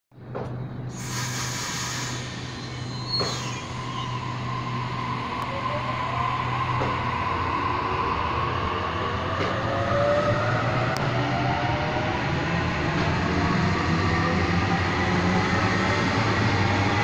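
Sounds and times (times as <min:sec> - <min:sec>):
electric train pulling away: 0:00.9 - 0:17.0.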